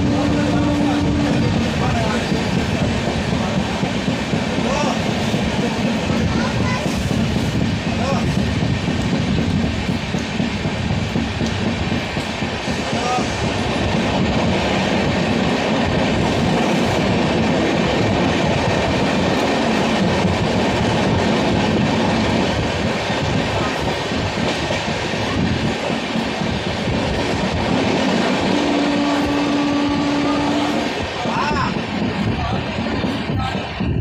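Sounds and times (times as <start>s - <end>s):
train wheels rattling: 0.0s - 34.0s.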